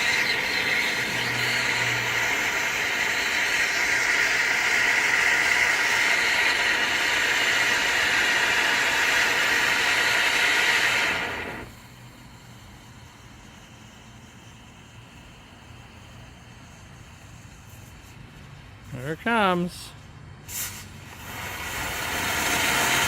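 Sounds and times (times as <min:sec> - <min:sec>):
firework fountain hissing: 0:00.0 - 0:23.0.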